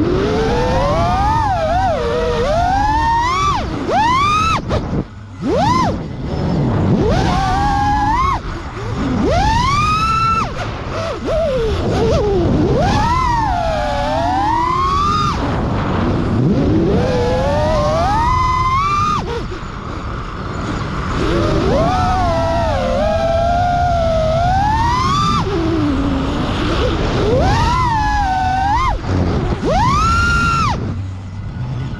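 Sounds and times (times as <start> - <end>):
quadcopter motors whining: 0.0 - 31.9
steady rushing noise: 0.0 - 31.9.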